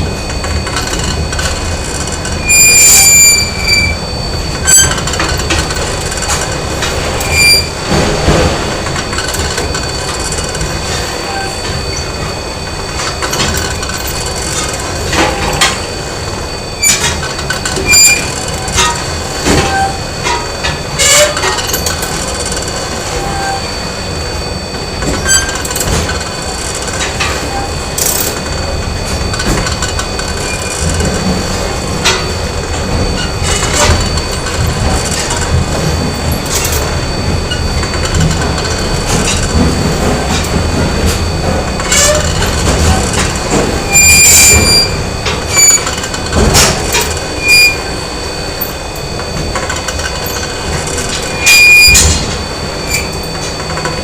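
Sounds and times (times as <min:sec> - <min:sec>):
factory machinery rumble: 0:00.0 - 0:54.0
high-pitched machine tones: 0:00.0 - 0:54.0.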